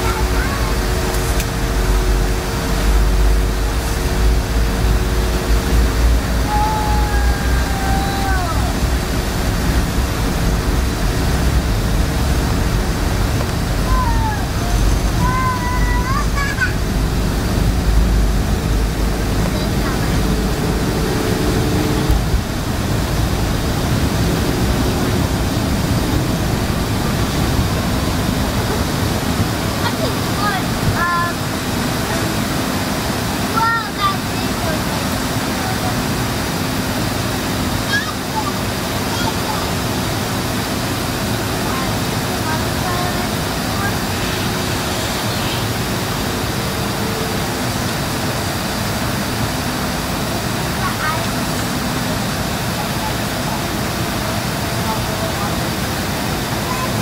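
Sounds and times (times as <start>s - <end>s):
aircraft cabin engine rumble: 0.0s - 57.0s
steady hum tones: 0.0s - 57.0s.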